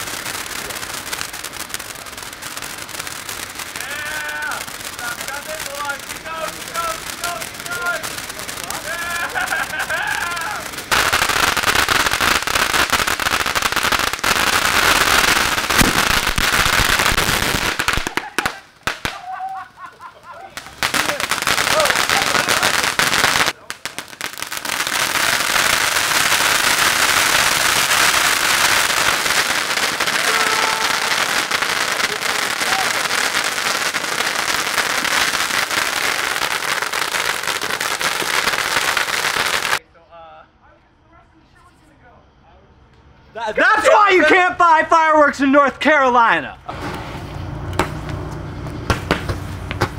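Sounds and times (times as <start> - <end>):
fireworks hissing and crackling: 0.0 - 39.8, 43.4 - 49.9.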